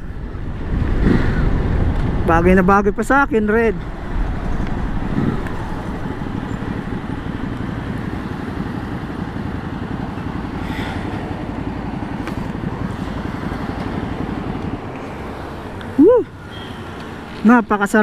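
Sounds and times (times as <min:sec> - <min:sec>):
motorcycle engine low rumble: 0:00.0 - 0:18.0.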